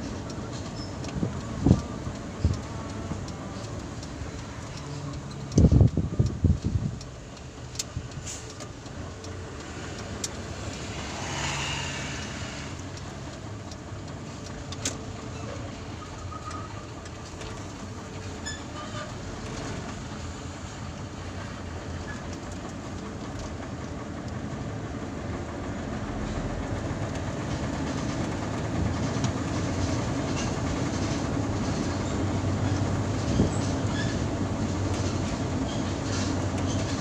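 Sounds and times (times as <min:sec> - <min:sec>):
engine and road noise in car: 0:00.0 - 0:37.0.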